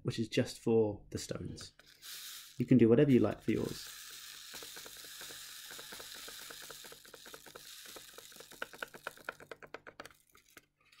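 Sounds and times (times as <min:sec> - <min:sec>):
seeds rattling in paper packet: 0:01.7 - 0:11.0.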